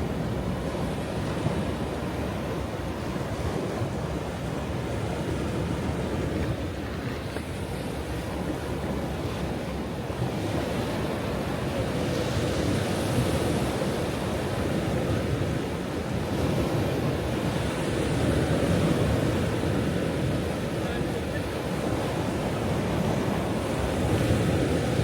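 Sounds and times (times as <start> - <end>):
ocean waves breaking on shore: 0.0 - 25.0
wind on microphone: 0.0 - 25.0.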